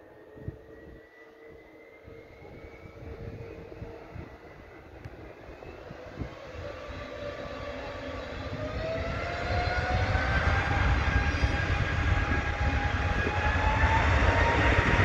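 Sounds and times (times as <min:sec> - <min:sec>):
deep rumble of takeoff roll: 0:00.0 - 0:15.0
jet engines spooling up: 0:00.0 - 0:15.0.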